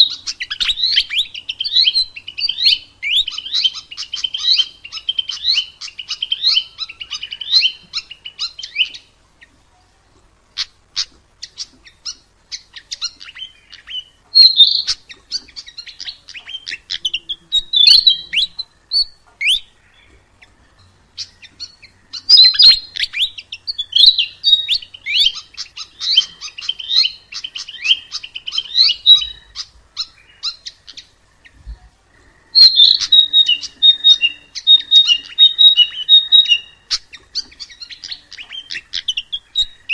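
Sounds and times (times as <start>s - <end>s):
bird chattering and trilling: 0.0s - 9.6s, 10.5s - 39.9s.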